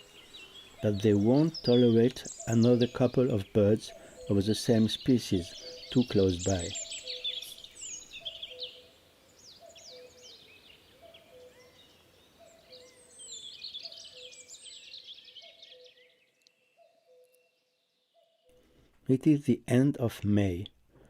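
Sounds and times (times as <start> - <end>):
birds chirping songs: 0.0 - 21.0.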